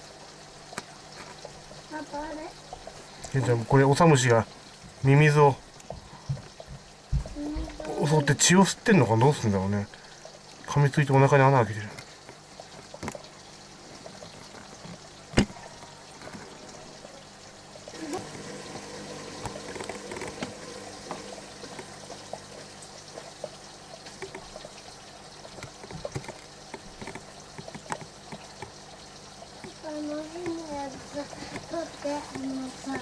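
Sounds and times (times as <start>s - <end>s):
faint water trickling: 0.0s - 33.0s.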